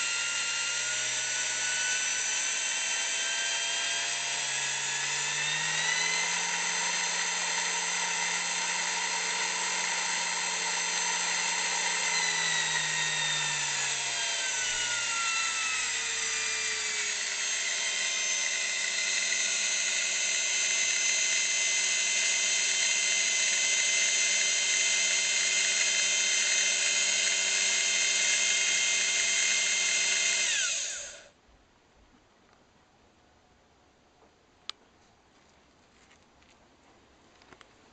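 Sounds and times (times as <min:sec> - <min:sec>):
drill press whining: 0:00.0 - 0:31.3.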